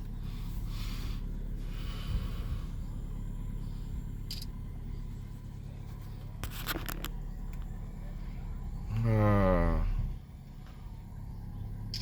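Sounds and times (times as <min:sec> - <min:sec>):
car rumbling inside cabin: 0:00.0 - 0:12.0.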